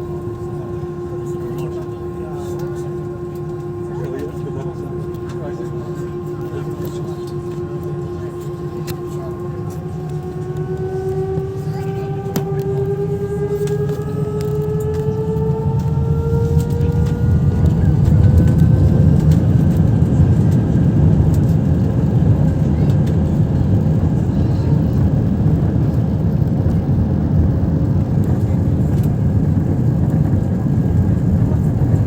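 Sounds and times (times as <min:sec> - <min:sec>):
jet engines at take-off power: 0:00.0 - 0:32.0.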